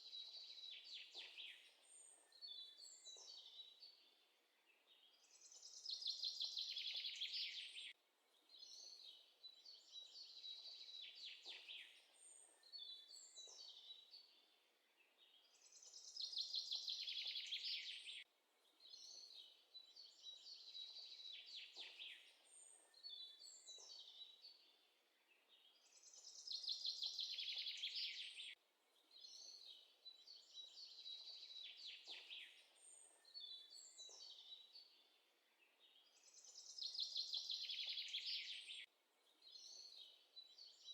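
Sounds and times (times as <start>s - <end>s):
birdsong chirps and trills: 0.0s - 40.9s.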